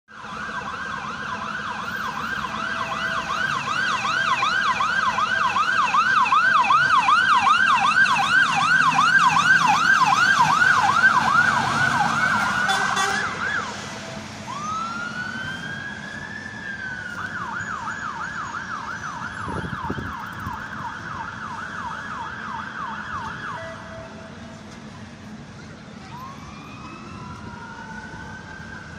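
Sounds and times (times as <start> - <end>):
siren yelping: 0.1 - 13.8, 14.5 - 24.3
siren slow rising wail: 0.1 - 28.9.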